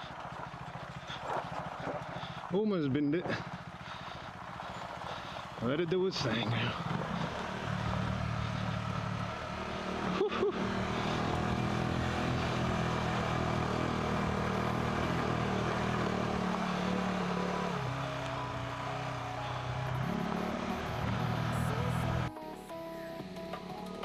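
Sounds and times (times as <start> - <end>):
motorcycle engine running: 0.0 - 22.3.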